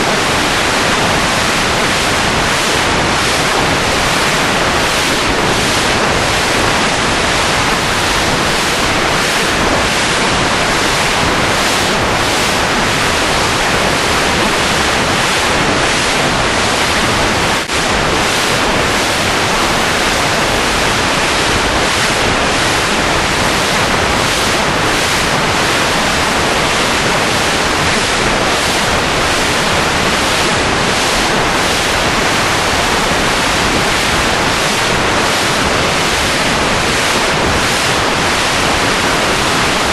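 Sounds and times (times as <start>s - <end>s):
loud static rushing noise: 0.0s - 39.9s.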